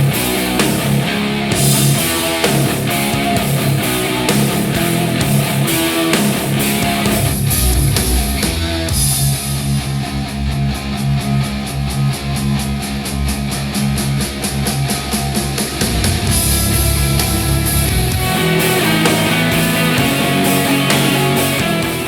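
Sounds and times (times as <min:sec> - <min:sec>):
heavy rock music through speaker: 0:00.0 - 0:22.0.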